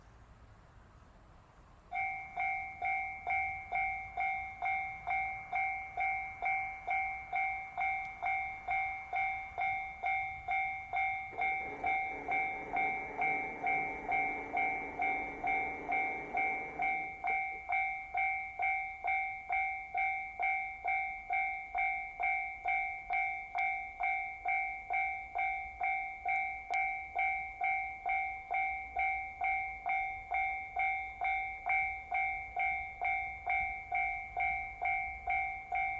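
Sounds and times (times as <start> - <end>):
diesel train rumbling past: 0.0 - 35.9
level crossing warning bell: 1.8 - 35.9.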